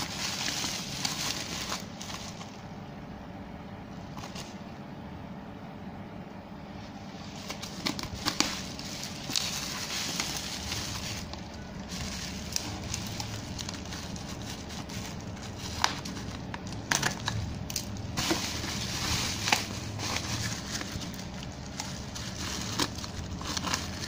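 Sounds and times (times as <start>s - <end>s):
bubble wrap crinkling: 0.0s - 2.6s, 7.2s - 24.0s.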